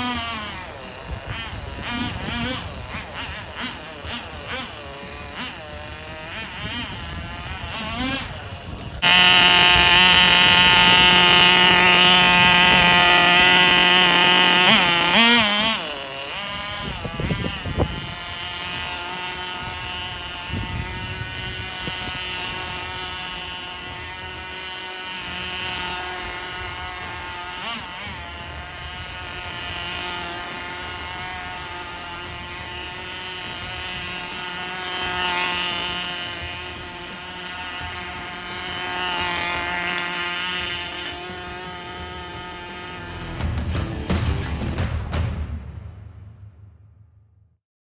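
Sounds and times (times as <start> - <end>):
small engine buzzing drone: 0.0 - 44.1.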